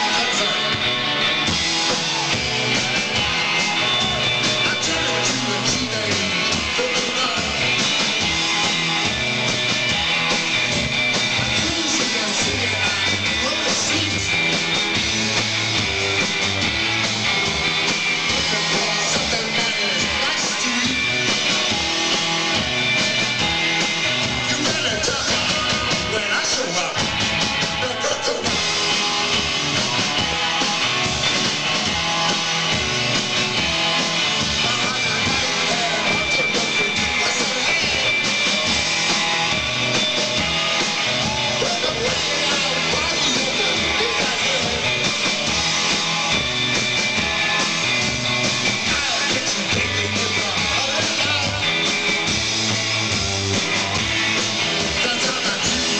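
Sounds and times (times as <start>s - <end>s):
electric guitar: 0.0s - 55.9s
rock band playing live: 0.0s - 55.9s.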